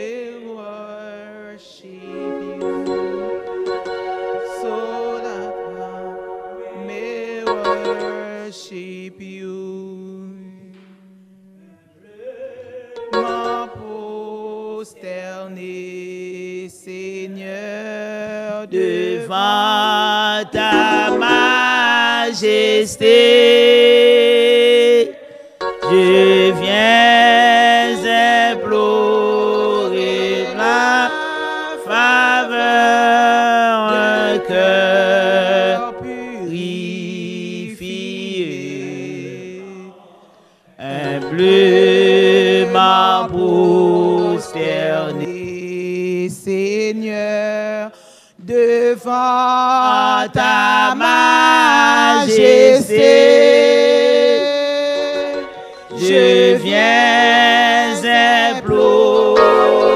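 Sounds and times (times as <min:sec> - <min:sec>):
group singing into microphones: 0:00.0 - 0:11.2, 0:12.0 - 0:59.9.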